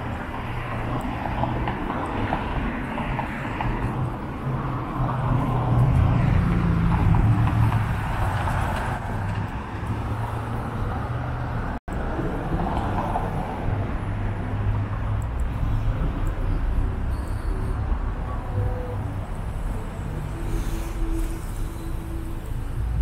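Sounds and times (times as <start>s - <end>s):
rumble of car traffic: 0.0s - 23.0s.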